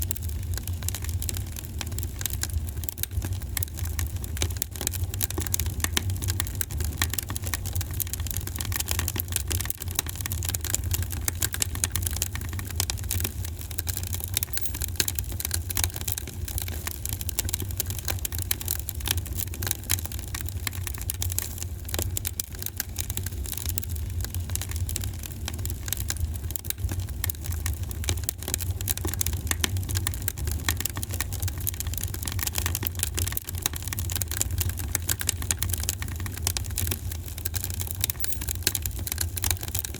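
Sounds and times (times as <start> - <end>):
wood fire crackling: 0.0 - 39.4.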